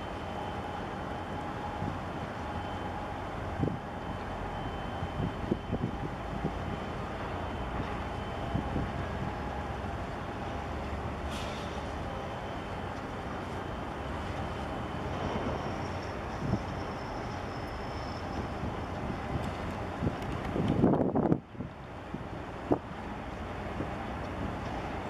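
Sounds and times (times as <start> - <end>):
ship engine low rumble: 0.0 - 25.0.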